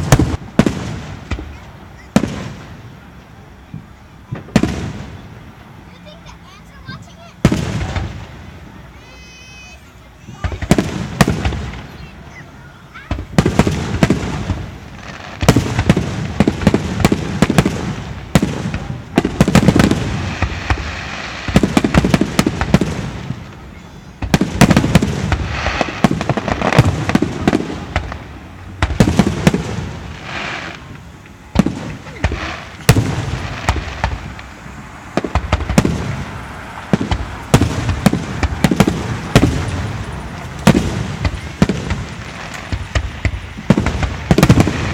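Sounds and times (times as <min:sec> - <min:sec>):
fireworks booming and crackling: 0:00.0 - 0:44.9.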